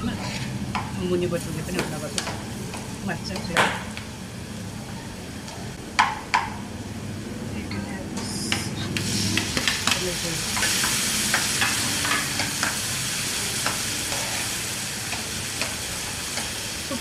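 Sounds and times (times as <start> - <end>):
vegetables sizzling in a pan: 0.0 - 6.4, 9.0 - 17.0.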